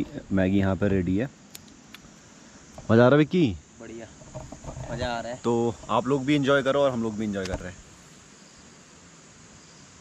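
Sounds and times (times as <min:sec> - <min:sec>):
insects chirring: 0:00.0 - 0:10.0
outdoor background hiss: 0:00.0 - 0:10.0.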